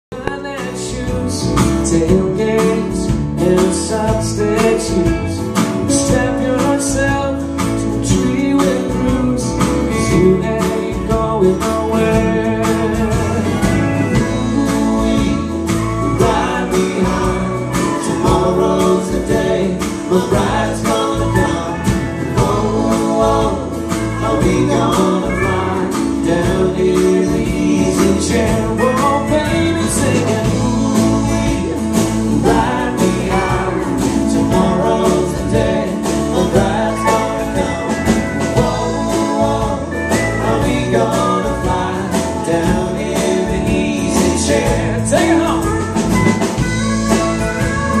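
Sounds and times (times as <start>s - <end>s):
country-rock band playing: 0.1s - 48.0s
people singing: 0.2s - 46.6s.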